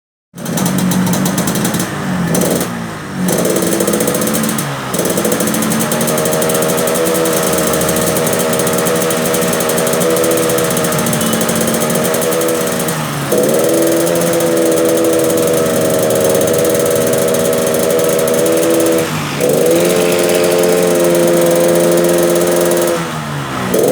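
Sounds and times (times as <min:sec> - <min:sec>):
motorcycle engine running rough: 0:00.3 - 0:23.9.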